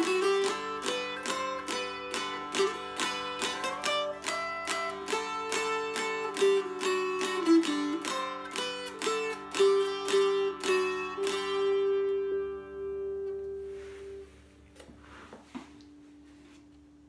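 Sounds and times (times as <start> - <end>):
dulcimer strummed over drone: 0.0 - 14.2.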